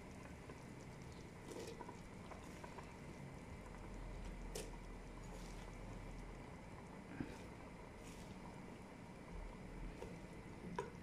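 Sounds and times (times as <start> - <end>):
beans spooned into pot: 0.0 - 8.9
stew bubbling in a pot: 0.0 - 11.0.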